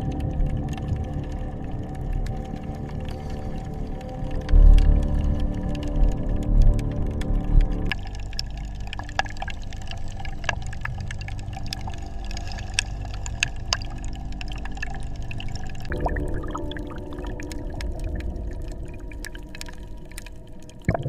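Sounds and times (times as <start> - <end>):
low water rumble: 0.0 - 21.0
water drips and clicks: 0.0 - 21.0.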